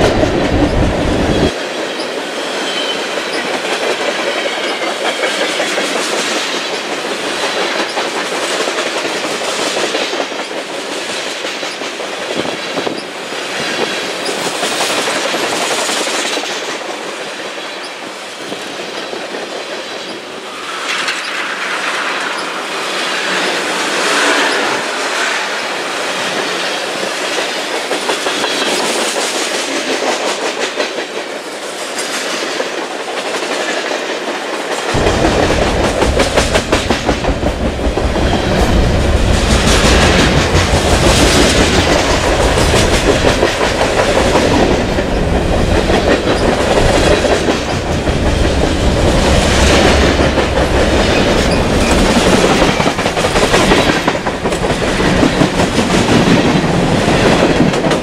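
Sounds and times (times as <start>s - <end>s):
clickety-clack of steel wheels: 0.0s - 58.0s
freight train cars rolling past: 0.0s - 58.0s.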